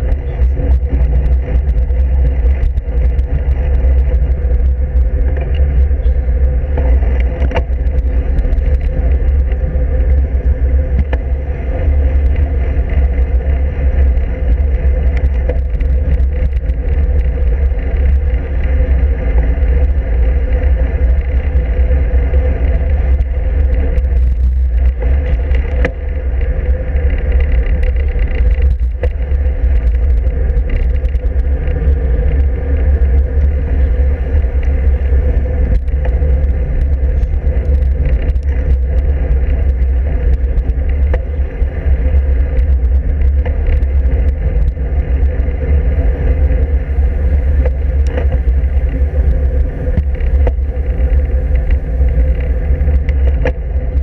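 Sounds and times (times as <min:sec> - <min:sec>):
road vibration: 0:00.0 - 0:54.0
wind rumble: 0:00.0 - 0:54.0.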